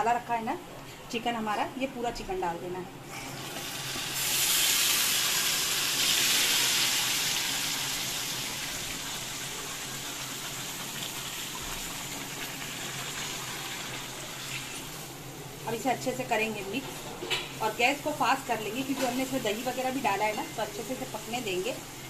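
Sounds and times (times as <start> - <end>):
chicken sizzling in hot oil: 3.2 - 16.8, 17.6 - 22.0.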